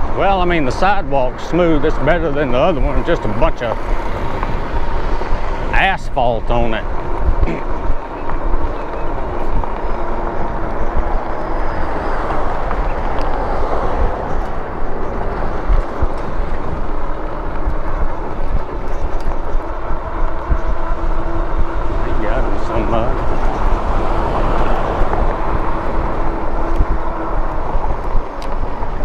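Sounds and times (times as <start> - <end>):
tyres rolling over asphalt: 0.0 - 29.0
wind rumbling on microphone: 0.0 - 29.0.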